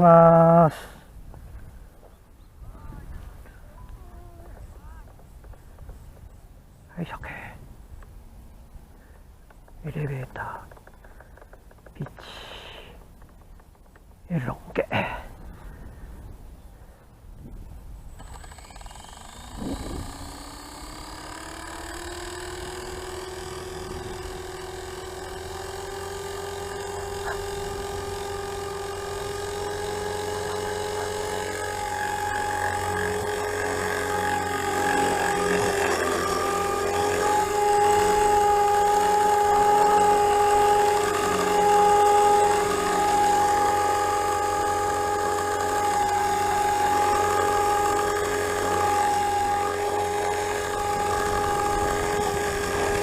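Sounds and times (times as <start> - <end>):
rc helicopter rotor whine: 2.6 - 6.4, 8.9 - 14.1, 18.0 - 53.0
abnormal rotor noise: 2.7 - 8.1, 9.0 - 15.2, 18.1 - 53.0.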